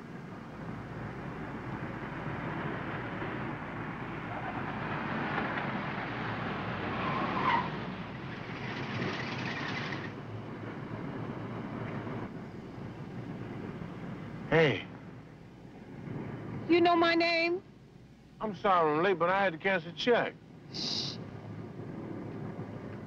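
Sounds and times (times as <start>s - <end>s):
car engine and tyres: 0.0s - 23.0s.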